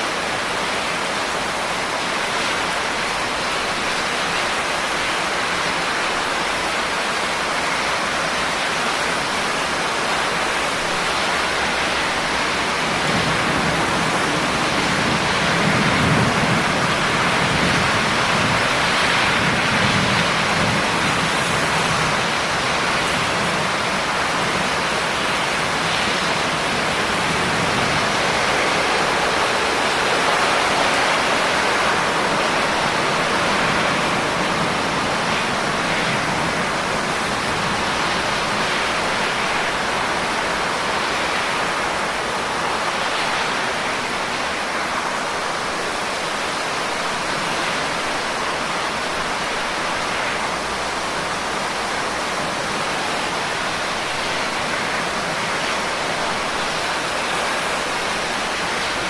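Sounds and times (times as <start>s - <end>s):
heavy rain on leaves and rocks: 0.0s - 59.0s.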